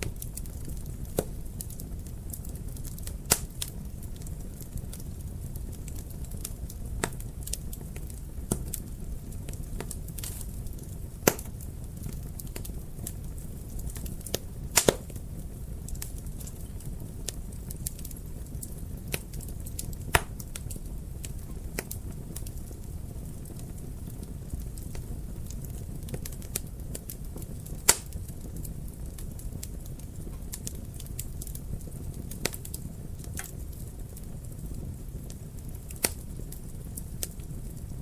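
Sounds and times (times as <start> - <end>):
fire crackling and popping: 0.0 - 38.0
low rumble of flames: 0.0 - 38.0.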